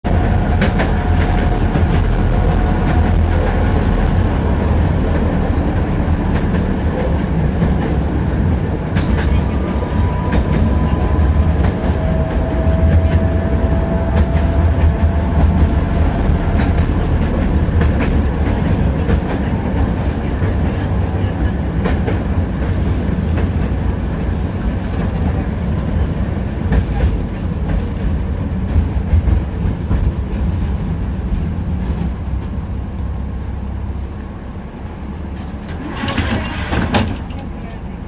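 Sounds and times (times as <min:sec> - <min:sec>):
tram wheels rumbling on rails: 0:00.0 - 0:38.0.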